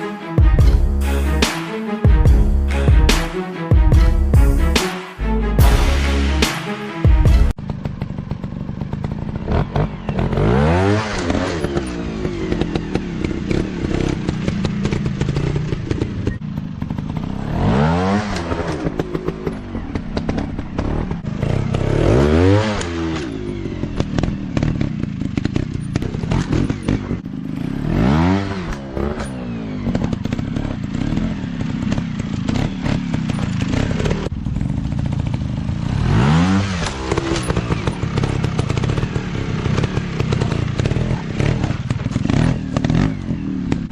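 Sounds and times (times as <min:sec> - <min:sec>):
dirt bike engine revving: 0:02.6 - 0:43.9.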